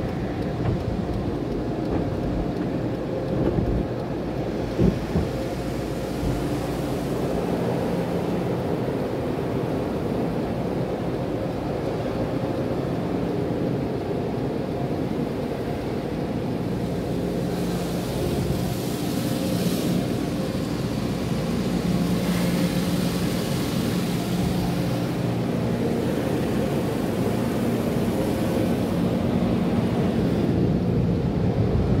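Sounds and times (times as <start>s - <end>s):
car wash machinery humming: 0.0s - 32.0s.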